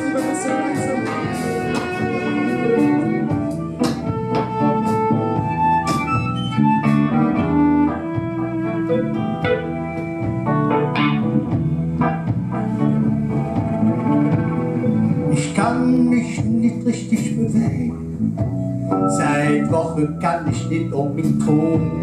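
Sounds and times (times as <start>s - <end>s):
live band playing instrumental: 0.0s - 17.8s, 18.4s - 22.0s
electric guitar: 0.0s - 22.0s.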